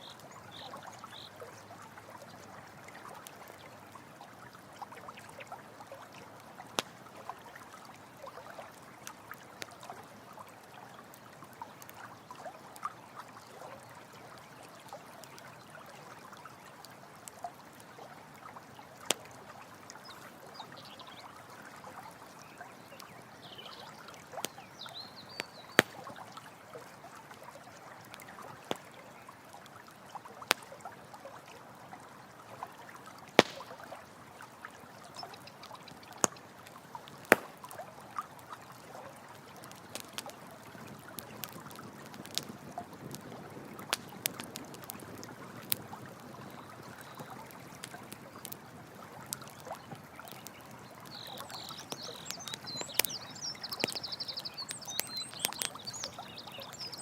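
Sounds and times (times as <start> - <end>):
campfire crackling: 0.0 - 31.0, 32.2 - 57.0
water trickling: 0.0 - 57.0.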